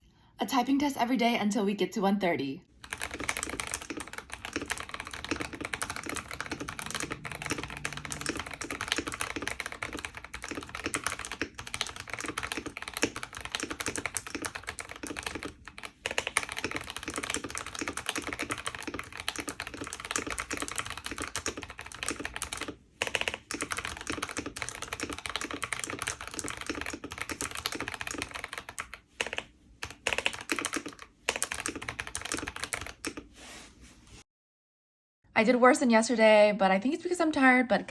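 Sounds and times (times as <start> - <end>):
fast typing on computer keyboard: 2.7 - 33.4.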